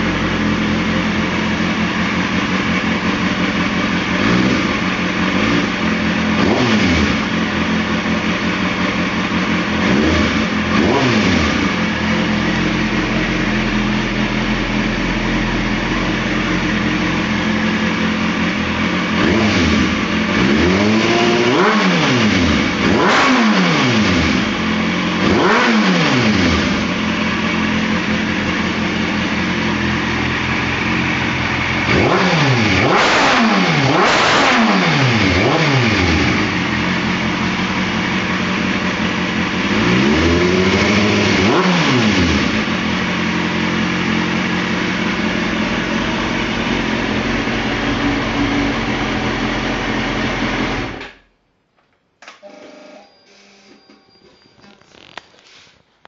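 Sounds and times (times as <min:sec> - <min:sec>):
motorcycle engine idling and revving: 0:00.0 - 0:51.3.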